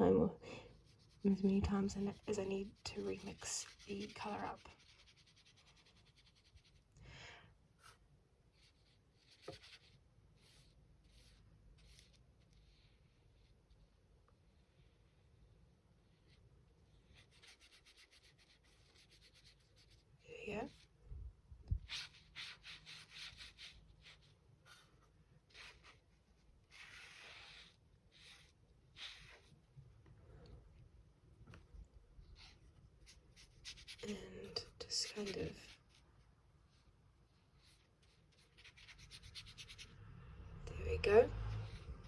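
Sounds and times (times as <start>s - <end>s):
brush stroking across paper: 0.7s - 6.9s, 7.8s - 15.3s, 16.0s - 21.0s, 21.8s - 29.7s, 32.2s - 42.0s.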